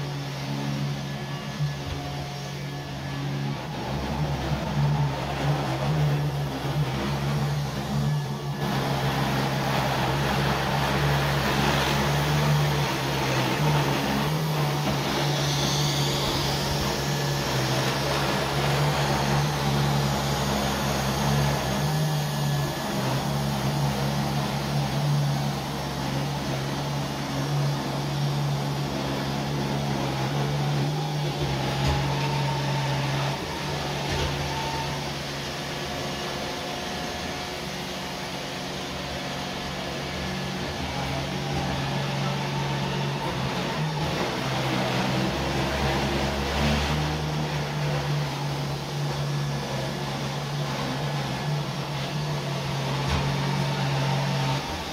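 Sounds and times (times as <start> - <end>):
robot vacuum cleaner humming: 0.0 - 54.9.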